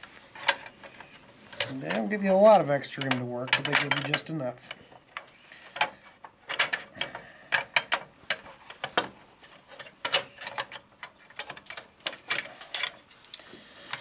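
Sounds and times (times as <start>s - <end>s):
steel parts clicking and clinking: 0.4s - 14.0s.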